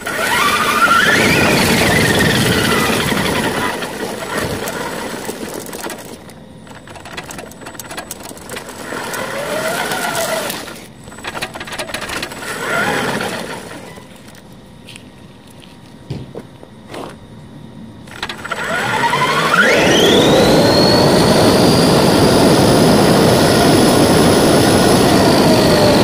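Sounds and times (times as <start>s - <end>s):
toy truck electric motor whining: 0.0s - 14.4s, 18.1s - 26.0s.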